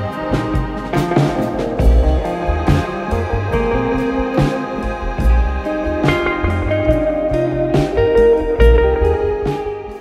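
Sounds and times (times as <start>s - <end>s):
guitar music with bass and beat: 0.0s - 10.0s.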